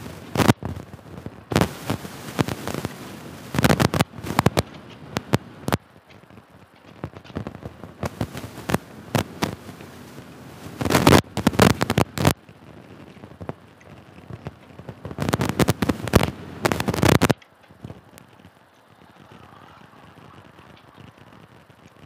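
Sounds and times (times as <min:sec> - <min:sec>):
rain and wind on microphone: 0:00.0 - 0:22.0.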